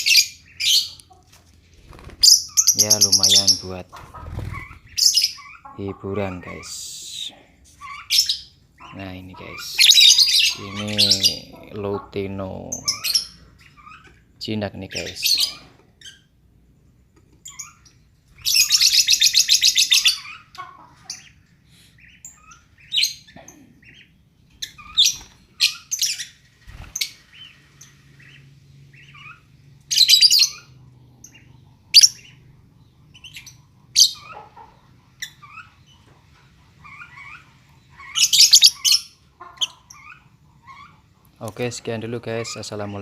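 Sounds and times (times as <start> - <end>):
lovebirds chirping: 0.0 - 43.0
shrill bird chattering: 2.2 - 14.3, 17.4 - 21.4, 22.0 - 36.0, 36.7 - 41.2.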